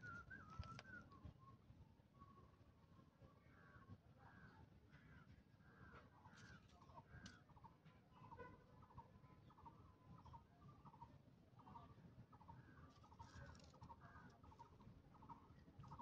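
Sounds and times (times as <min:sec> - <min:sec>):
faint bird chirps and trills: 0:00.0 - 0:16.0.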